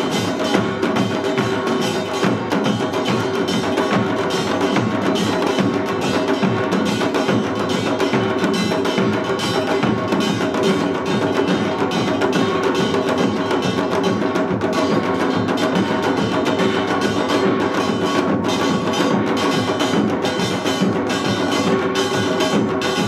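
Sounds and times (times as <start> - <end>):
drums struck in fast patterns: 0.0 - 23.0.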